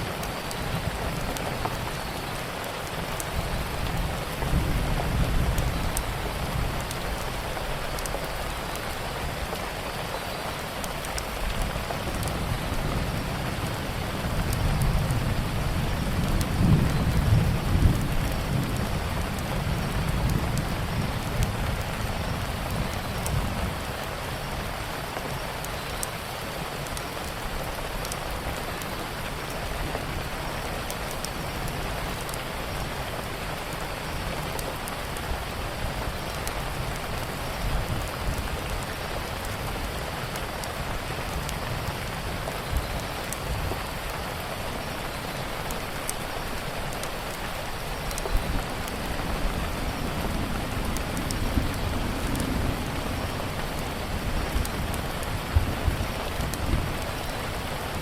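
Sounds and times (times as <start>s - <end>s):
heavy rain: 0.0s - 58.0s
wood fire popping and crackling: 0.0s - 58.0s.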